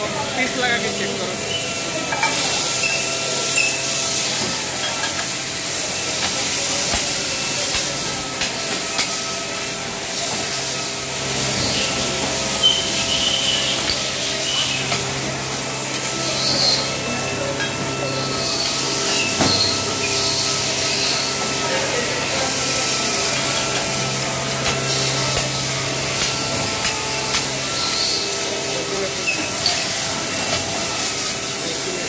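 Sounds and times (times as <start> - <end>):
machinery hiss and hum: 0.0 - 32.0.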